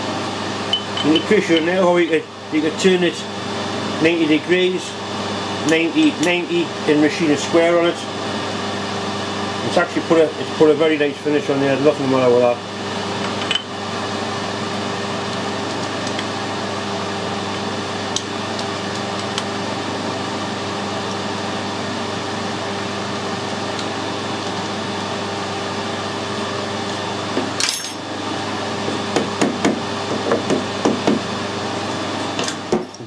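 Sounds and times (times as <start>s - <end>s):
metal lathe motor hum: 0.0s - 33.0s.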